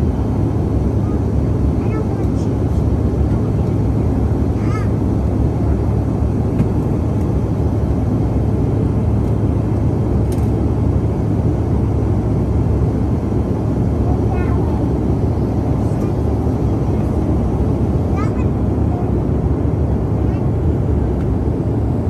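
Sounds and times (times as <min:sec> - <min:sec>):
jet cabin rumble: 0:00.0 - 0:22.0
steady low hum: 0:00.0 - 0:22.0.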